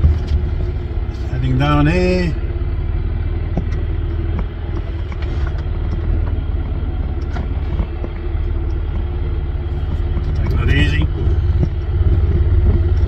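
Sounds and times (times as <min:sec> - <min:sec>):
vehicle knocks and rattles: 0:00.0 - 0:01.1, 0:03.4 - 0:13.0
engine and tyre rumble: 0:00.0 - 0:13.0.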